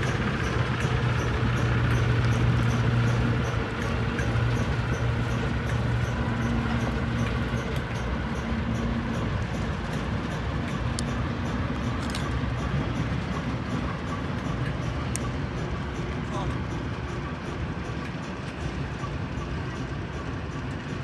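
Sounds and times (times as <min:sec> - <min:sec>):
diesel locomotive engine humming: 0:00.0 - 0:21.0
train wheel clicks: 0:00.0 - 0:21.0.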